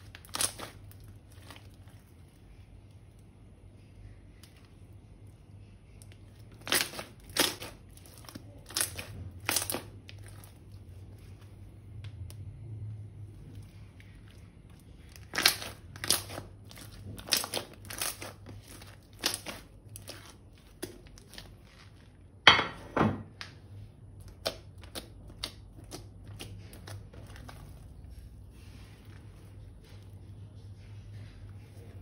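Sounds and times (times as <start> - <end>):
slime materials crinkling and crunching: 0.0 - 22.5, 23.8 - 30.4.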